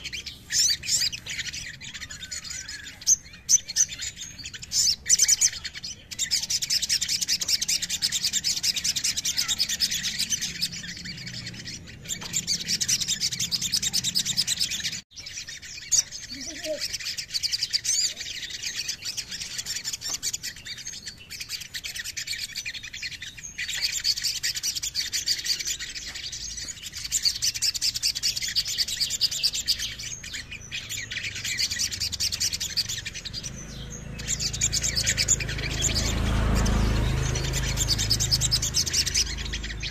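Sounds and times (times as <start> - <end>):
bird twittering trills: 0.0 - 39.9.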